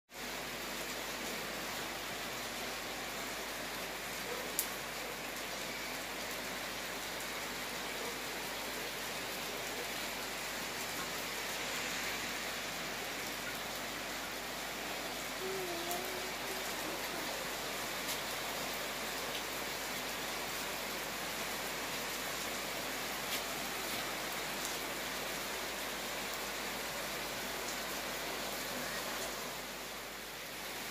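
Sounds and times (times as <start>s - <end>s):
heavy rain falling: 0.2s - 30.9s.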